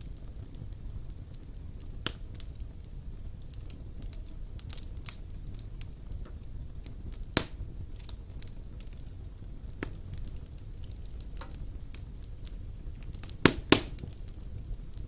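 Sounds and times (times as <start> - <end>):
burning logs crackling: 0.0 - 15.0
low rumble of flames: 0.0 - 15.0.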